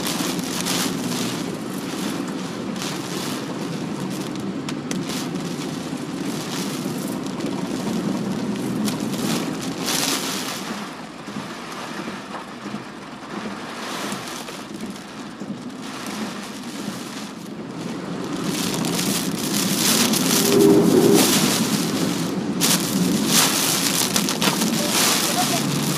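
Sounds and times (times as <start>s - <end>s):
car road rumble: 0.0s - 25.9s
rain and wind beating on car: 0.0s - 25.9s.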